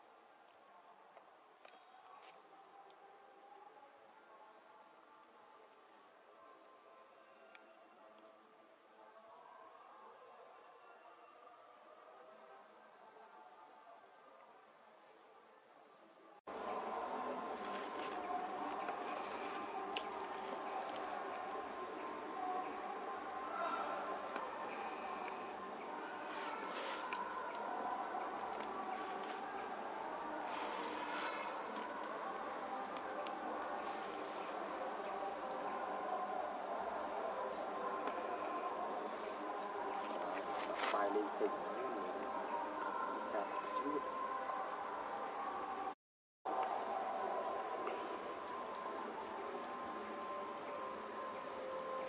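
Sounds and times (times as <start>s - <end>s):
insect chorus drone: 0.0s - 52.0s
low background noise: 0.0s - 52.0s.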